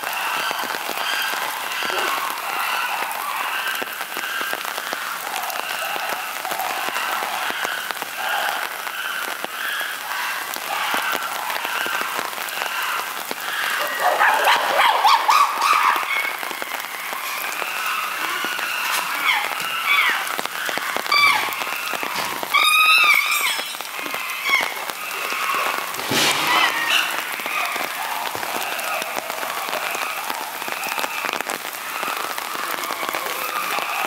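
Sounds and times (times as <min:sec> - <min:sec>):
chimpanzee screaming: 0:00.0 - 0:34.0
steady rain falling: 0:00.0 - 0:34.0.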